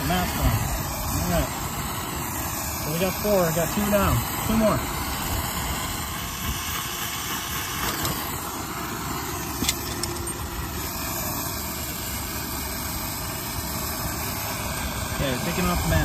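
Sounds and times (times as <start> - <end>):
torch flame hissing roar: 0.0 - 16.0.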